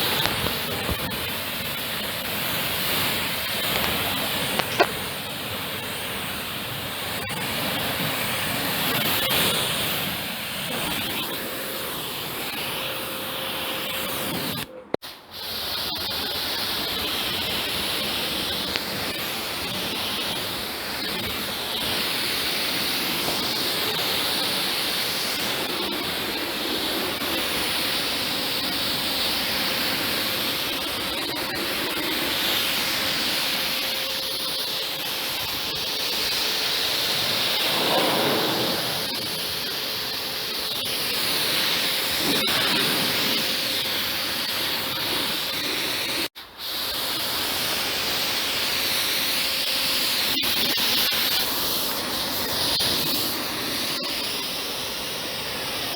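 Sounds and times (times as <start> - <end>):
pressure washer spraying water: 0.0 - 55.9.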